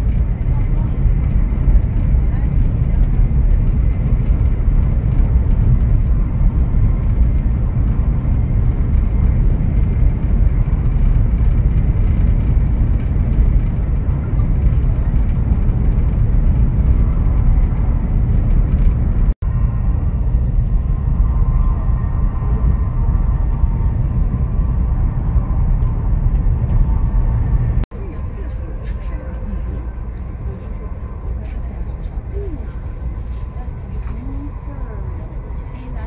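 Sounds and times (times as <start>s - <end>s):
train cabin rumble and hiss: 0.0s - 36.0s.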